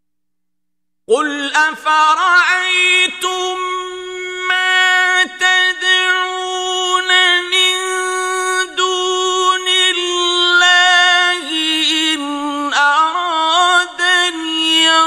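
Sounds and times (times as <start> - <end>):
man reciting melodically: 1.1 - 15.0.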